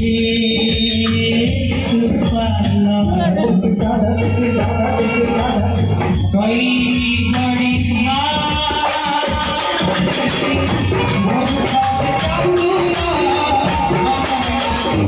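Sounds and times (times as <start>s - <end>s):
man singing into a microphone: 0.0s - 15.0s
percussion beat: 0.0s - 15.0s.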